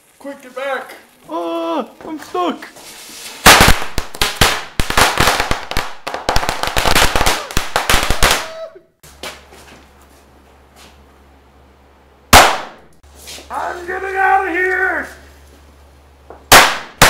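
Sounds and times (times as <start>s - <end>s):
firecrackers crackling: 0.0s - 9.5s, 12.3s - 17.0s.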